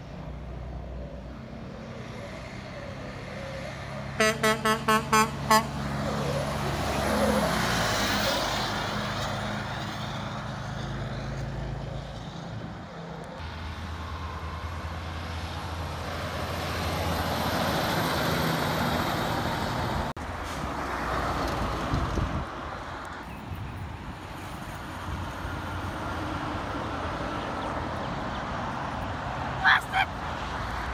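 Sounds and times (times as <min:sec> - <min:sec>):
trucks driving past: 0:00.0 - 0:30.9
tyre and road noise: 0:00.0 - 0:30.9.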